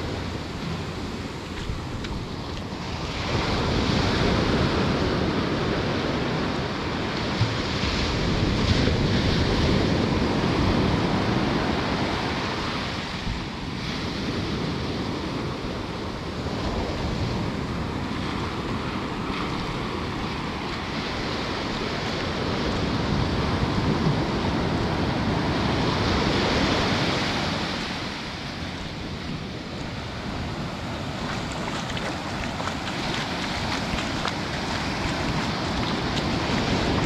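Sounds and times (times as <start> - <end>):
ocean waves breaking on sand: 0.0 - 37.0
wind buffeting microphone: 0.0 - 37.0.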